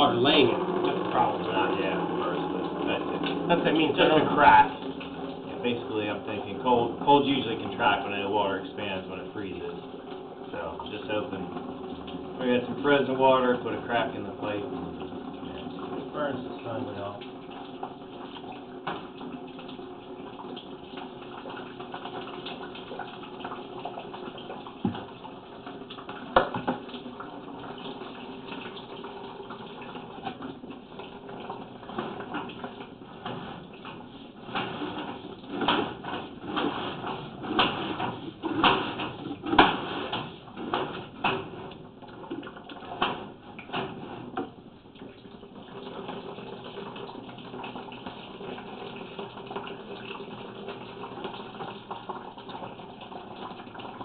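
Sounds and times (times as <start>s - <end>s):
water running through drain pipe: 0.0s - 54.0s.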